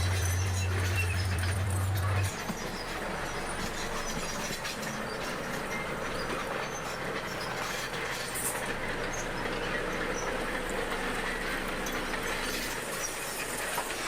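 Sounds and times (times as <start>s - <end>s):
bulldozer working: 0.0s - 14.0s
steel tracks clattering: 0.0s - 14.0s.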